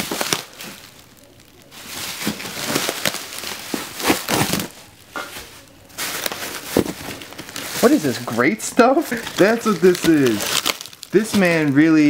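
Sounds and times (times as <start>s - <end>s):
plastic bags and foam rustling: 0.0s - 12.0s.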